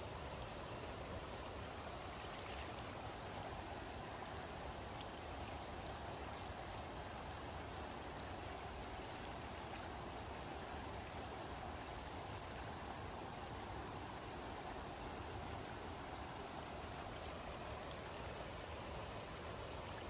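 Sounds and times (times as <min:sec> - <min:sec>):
river water pouring over weir: 0:00.0 - 0:20.0.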